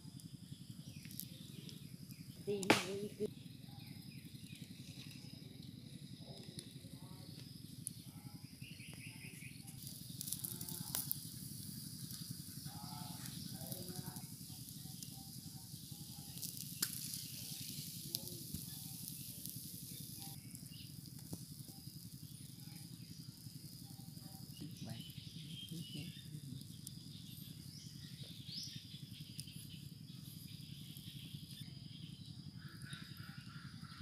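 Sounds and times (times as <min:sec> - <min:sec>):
crackles and pops: 0:00.0 - 0:34.0
meat sizzling over embers: 0:00.1 - 0:34.0.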